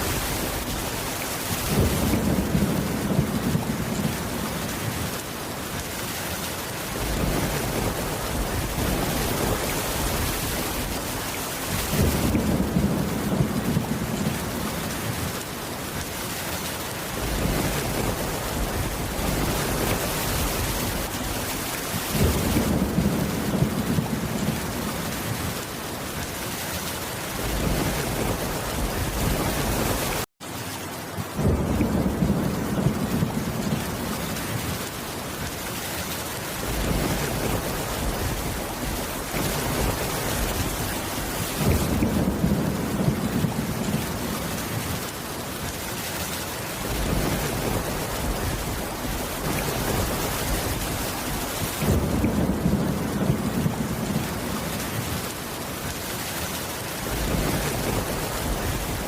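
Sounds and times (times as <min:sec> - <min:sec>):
low thunder rumbling: 0:00.0 - 0:05.3, 0:06.9 - 0:16.0, 0:17.1 - 0:26.5, 0:27.3 - 0:30.2, 0:31.2 - 0:35.4, 0:36.6 - 0:45.7, 0:46.7 - 0:56.3, 0:57.0 - 0:59.0
heavy rain: 0:00.0 - 0:59.0.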